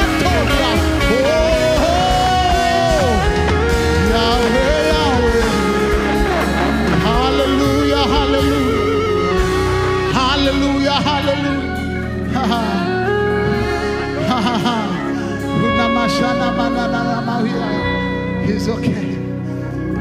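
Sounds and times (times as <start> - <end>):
band playing sustained chords: 0.0 - 20.0.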